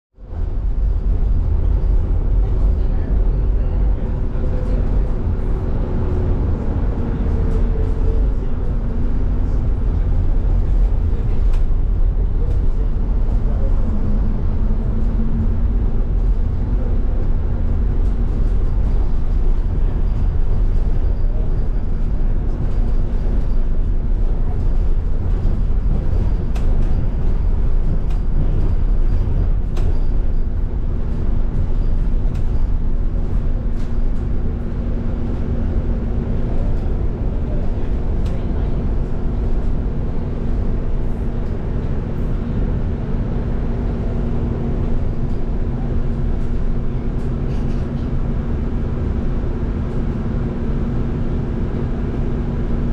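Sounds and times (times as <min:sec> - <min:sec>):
bus road rumble: 0:00.2 - 0:52.9
constant hum: 0:00.2 - 0:52.9.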